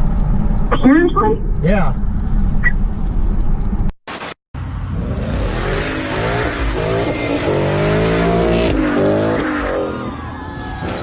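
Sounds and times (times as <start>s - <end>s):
car engine: 0.0s - 11.0s
road and tyre noise: 0.0s - 11.0s.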